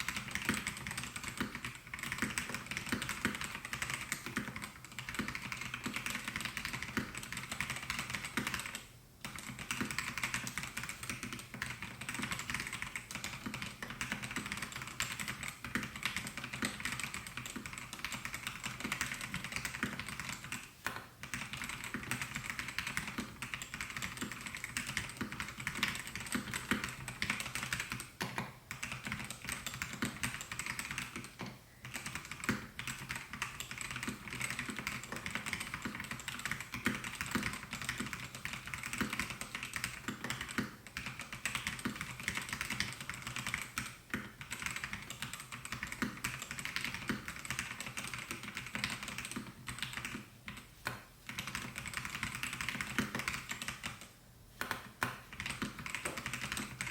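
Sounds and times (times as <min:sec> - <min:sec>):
mechanical keyboard typing: 0:00.0 - 0:56.9.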